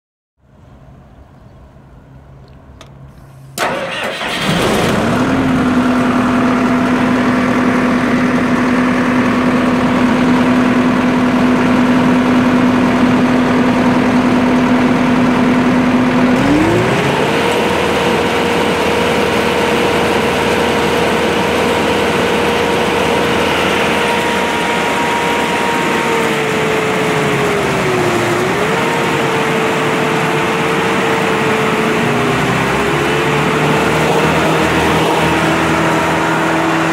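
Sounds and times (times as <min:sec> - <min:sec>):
diesel engine running: 0:02.8 - 0:36.9.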